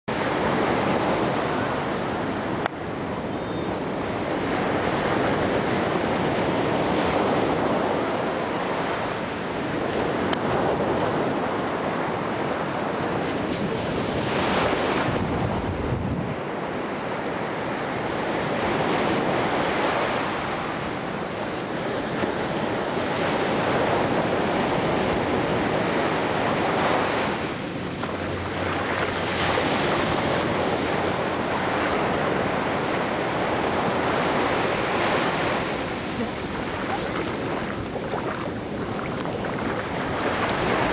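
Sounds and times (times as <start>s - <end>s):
ocean surf breaking: 0.1s - 40.9s
wind buffeting microphone: 0.1s - 40.9s.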